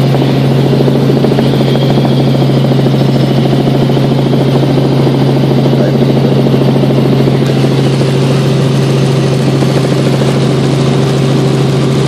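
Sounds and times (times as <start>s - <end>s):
aircraft engine and propeller drone: 0.0s - 12.0s
constant low hum: 0.0s - 12.0s.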